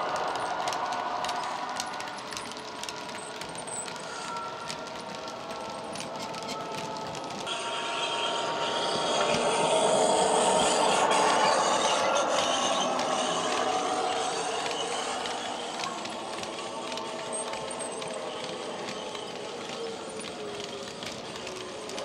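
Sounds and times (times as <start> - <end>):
model train wheels clicking on rails: 0.0 - 7.6, 8.7 - 22.0.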